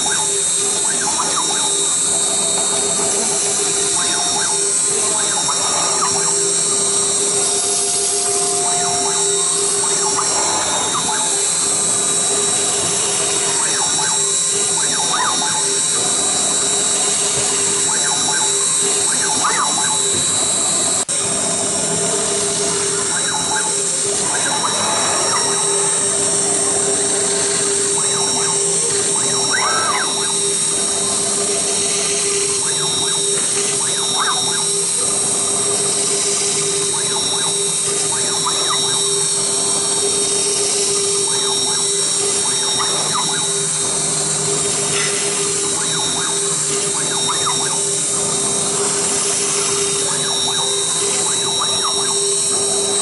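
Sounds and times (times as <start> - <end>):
bit cutting circuit board: 0.0 - 53.0
router spindle high whine: 0.0 - 53.0.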